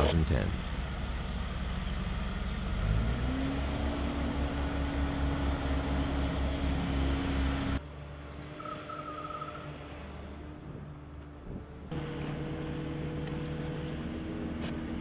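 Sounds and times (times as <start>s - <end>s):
machinery engine rumbling: 0.0s - 15.0s.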